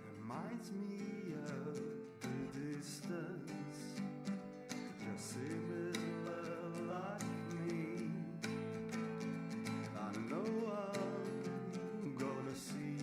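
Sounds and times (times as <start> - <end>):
country song on acoustic guitar: 0.0 - 13.0.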